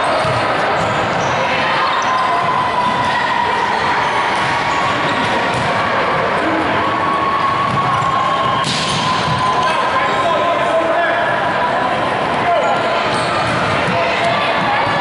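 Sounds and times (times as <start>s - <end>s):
echoing gymnasium din: 0.0s - 15.0s.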